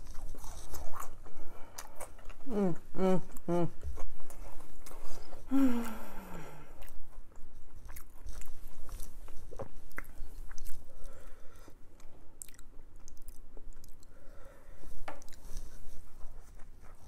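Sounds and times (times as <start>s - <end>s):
person chewing with wet mouth sounds: 0.0s - 17.0s.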